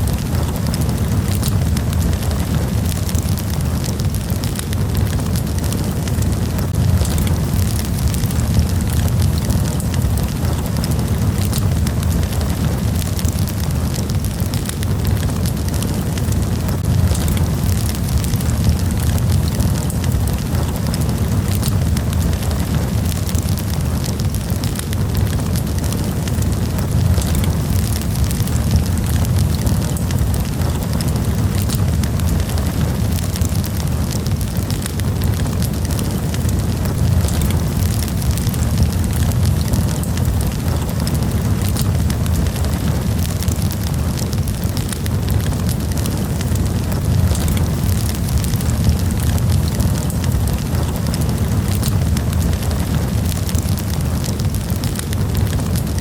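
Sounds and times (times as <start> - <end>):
wood campfire crackling and popping: 0.0 - 56.0.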